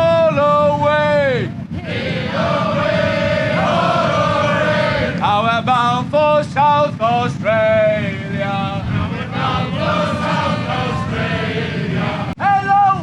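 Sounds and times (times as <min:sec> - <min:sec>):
low background rumble: 0:00.0 - 0:13.0
men chanting together: 0:01.8 - 0:12.4.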